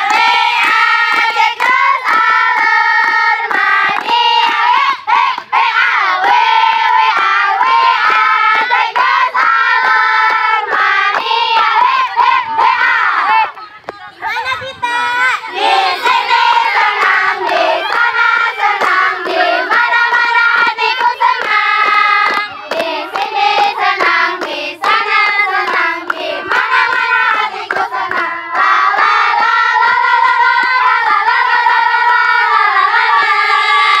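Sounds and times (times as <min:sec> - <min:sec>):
girls singing in unison: 0:00.0 - 0:13.6, 0:15.4 - 0:34.0
hands clapping: 0:00.0 - 0:14.0, 0:16.0 - 0:34.0.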